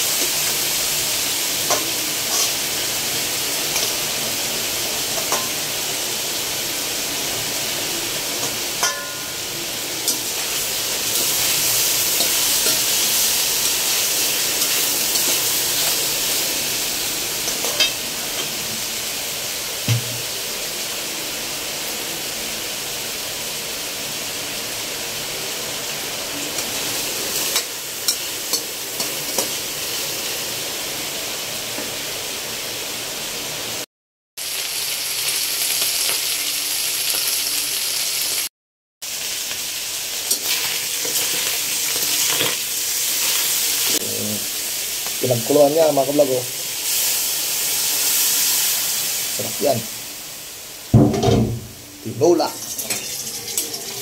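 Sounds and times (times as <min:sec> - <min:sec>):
chicken sizzling in a wok: 0:00.0 - 0:54.0.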